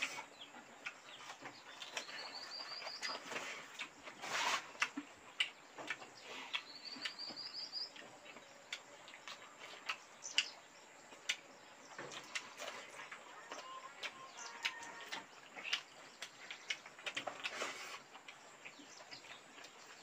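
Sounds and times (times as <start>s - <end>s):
people eating with clicks and smacks: 0.0s - 20.0s.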